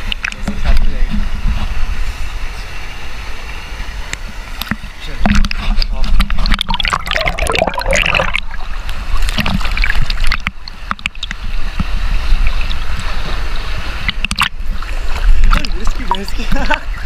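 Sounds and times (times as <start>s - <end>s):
water splashing and gurgling: 0.0s - 17.0s.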